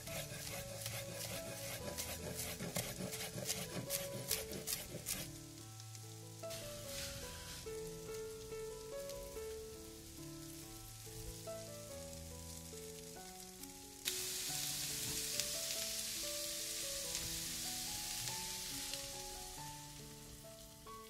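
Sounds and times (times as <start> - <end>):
soft background music: 0.0 - 21.0
vegetables sizzling in oil: 0.0 - 21.0.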